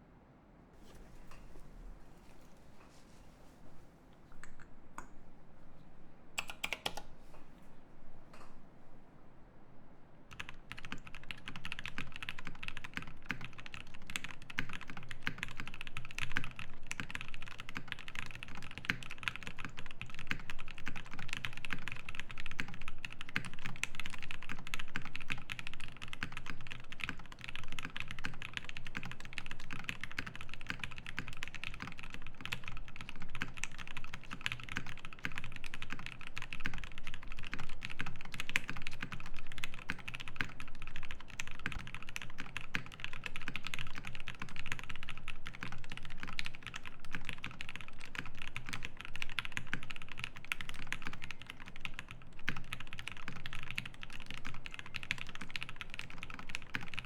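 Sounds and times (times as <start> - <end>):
fast typing on mechanical keyboard: 6.4 - 7.1, 10.3 - 57.0.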